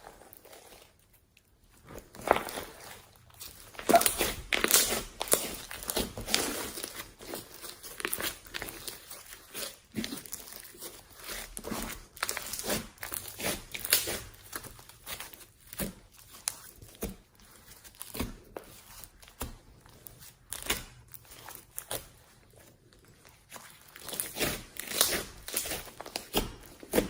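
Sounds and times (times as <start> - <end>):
slime squeezed with sticky crackles: 1.8 - 27.0.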